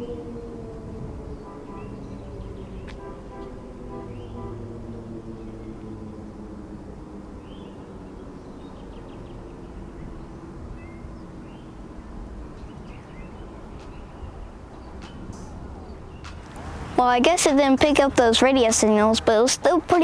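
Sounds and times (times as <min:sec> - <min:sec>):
birds chirping: 0:00.0 - 0:20.0
distant warning sirens: 0:00.0 - 0:20.0.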